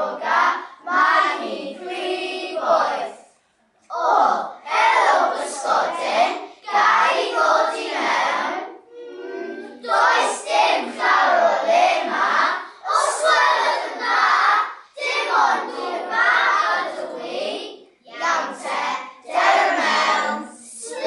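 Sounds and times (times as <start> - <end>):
children chanting in unison: 0.0 - 21.0.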